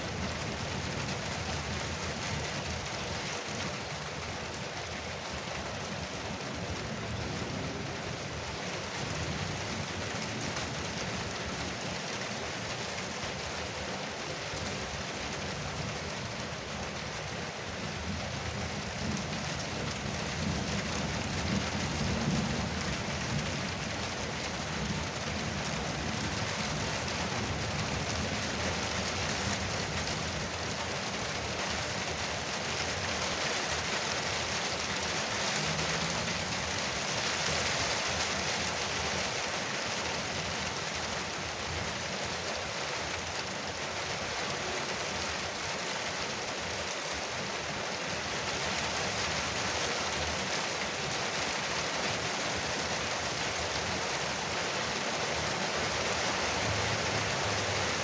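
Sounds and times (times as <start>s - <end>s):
heavy rain on porch roof: 0.0s - 58.0s.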